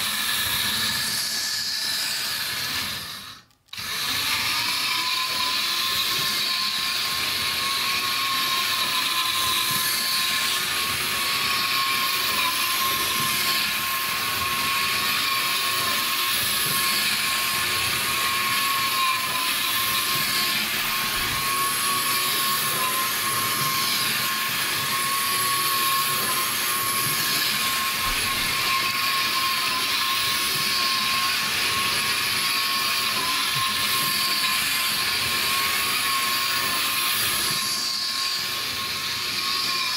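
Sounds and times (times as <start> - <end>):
model train motor whining: 0.0 - 39.9.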